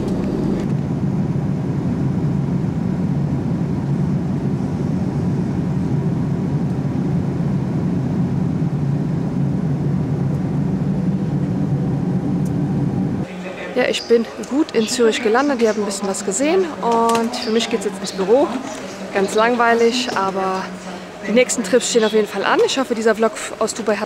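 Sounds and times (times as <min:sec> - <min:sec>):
airliner cabin engine rush: 0:00.0 - 0:23.7.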